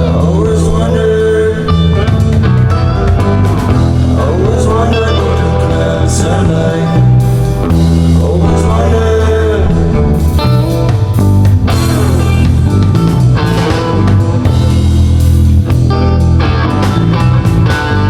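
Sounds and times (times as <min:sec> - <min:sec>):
rock music with guitar: 0:00.0 - 0:18.0.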